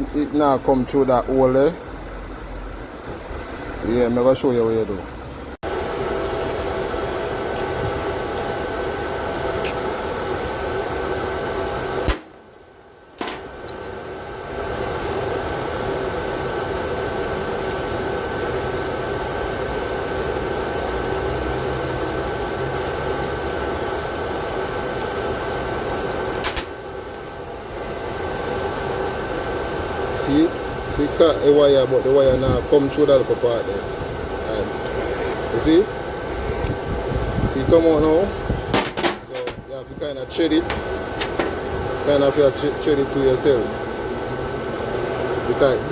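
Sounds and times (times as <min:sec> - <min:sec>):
welding machine humming: 0:05.7 - 0:45.8.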